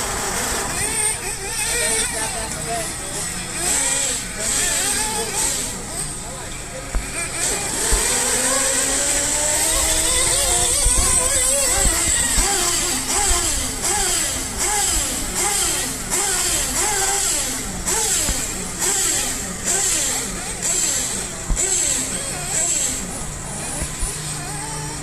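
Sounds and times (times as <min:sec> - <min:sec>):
model car engines whining: 0:00.0 - 0:25.0.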